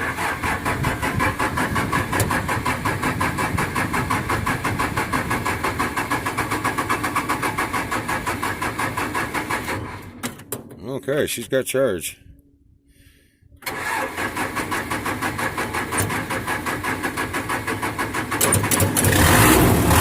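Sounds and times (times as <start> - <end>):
starter motor cranking engine: 0.0 - 10.3, 13.6 - 20.0.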